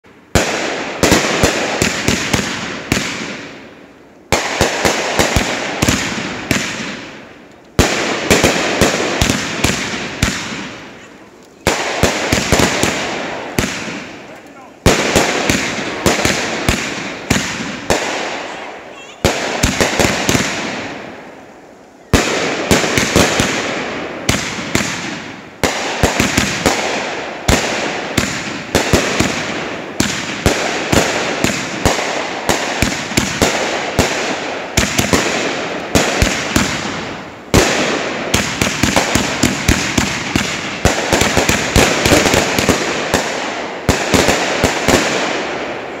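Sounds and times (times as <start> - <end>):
fireworks bangs with crackling: 0.0 - 46.0.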